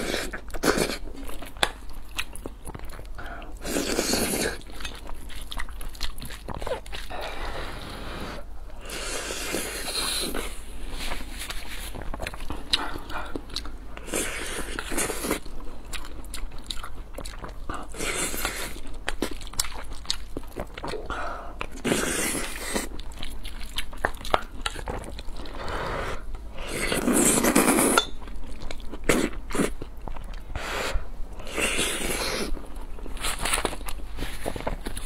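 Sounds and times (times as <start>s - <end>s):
close chewing: 0.0s - 7.8s, 9.0s - 30.6s, 31.3s - 35.0s.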